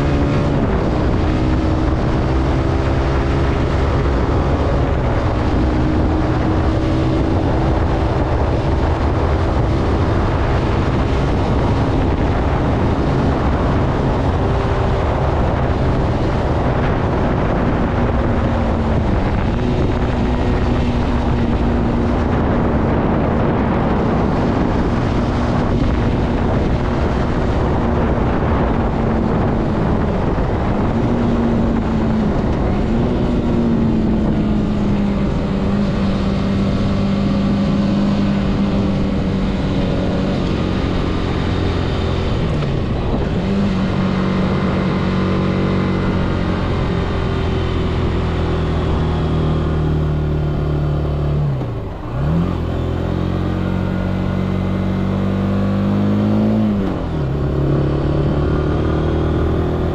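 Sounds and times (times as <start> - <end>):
motorcycle engine cruising: 0.0 - 59.9
wind rumble on microphone: 0.0 - 59.9.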